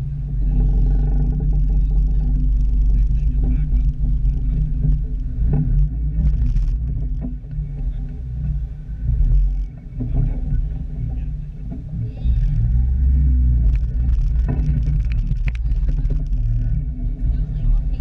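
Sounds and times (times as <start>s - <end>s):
engine knocks: 0.0s - 18.0s
engine running at low revs: 0.0s - 18.0s.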